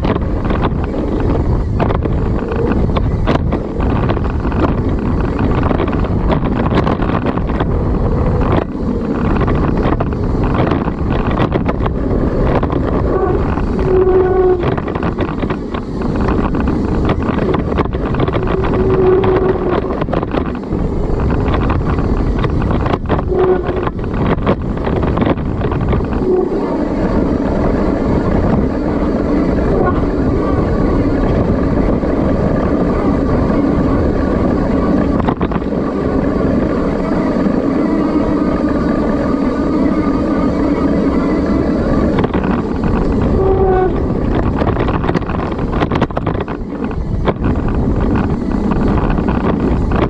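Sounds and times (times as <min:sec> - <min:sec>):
bike rolling on dirt trail: 0:00.0 - 0:50.0
wind buffeting microphone: 0:00.0 - 0:50.0.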